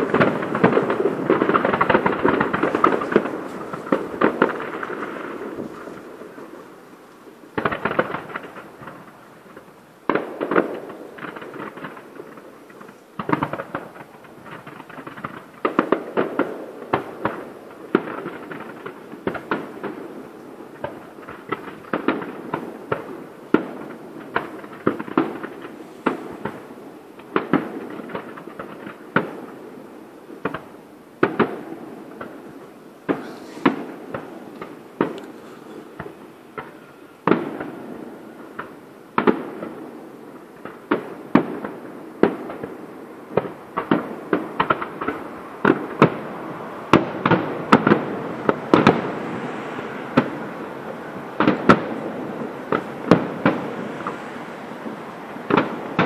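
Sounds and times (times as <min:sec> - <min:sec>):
firework shells bursting: 0:00.0 - 0:29.7, 0:30.3 - 0:56.0.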